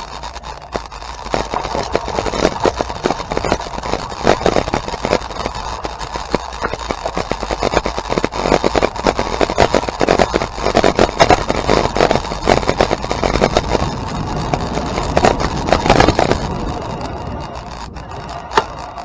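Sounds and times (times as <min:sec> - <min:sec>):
engine running with rapid ticking: 0:00.0 - 0:19.0.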